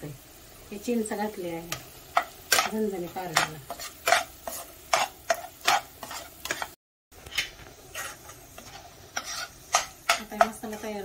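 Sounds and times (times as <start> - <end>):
metal spatula scraping paste in pan: 2.2 - 11.0.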